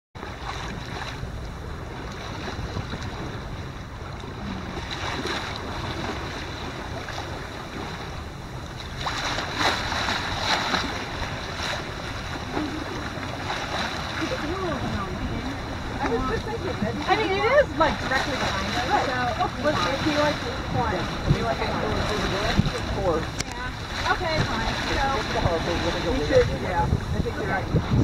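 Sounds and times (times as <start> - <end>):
choppy water along boat hull: 0.2 - 28.0
water splashes: 0.2 - 28.0
wind on microphone: 0.2 - 28.0.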